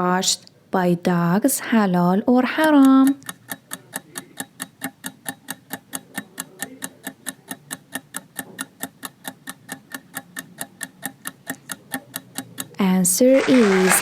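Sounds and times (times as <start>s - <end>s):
rapid clock ticking: 2.4s - 13.7s.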